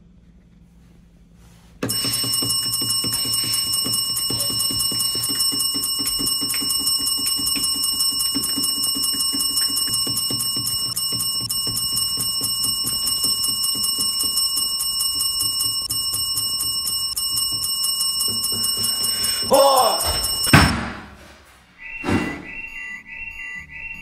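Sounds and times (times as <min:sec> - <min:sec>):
alarm bell ringing: 0:01.8 - 0:20.8, 0:21.8 - 0:24.0.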